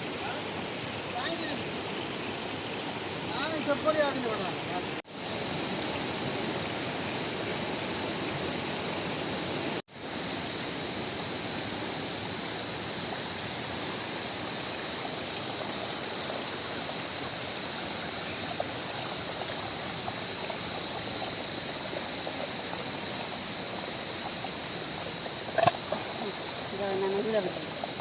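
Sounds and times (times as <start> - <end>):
rushing water: 0.0 - 28.0.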